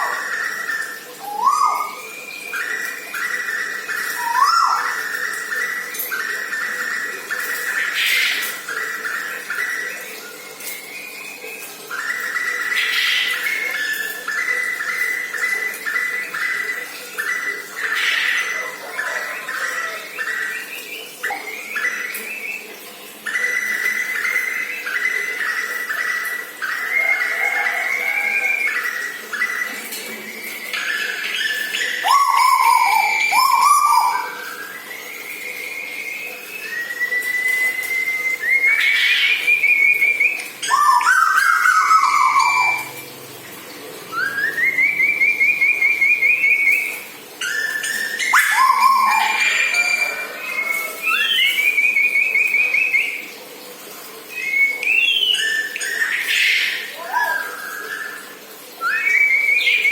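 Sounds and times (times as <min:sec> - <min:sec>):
bird singing whistled phrases: 0:00.0 - 0:43.0, 0:44.1 - 0:53.3, 0:54.3 - 0:59.9.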